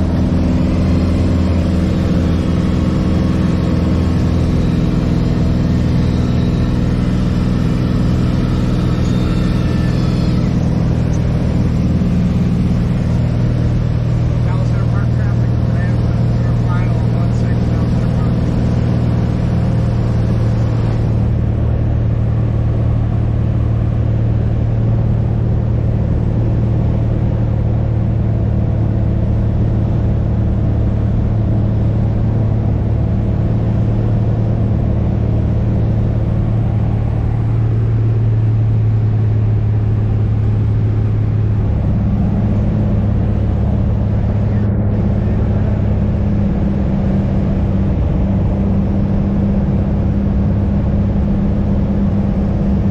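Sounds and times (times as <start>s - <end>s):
light aircraft engine drone: 0.0s - 52.9s.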